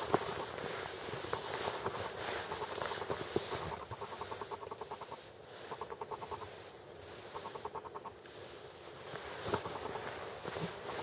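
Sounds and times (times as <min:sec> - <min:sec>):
footsteps crunching through snow: 0:00.0 - 0:11.0.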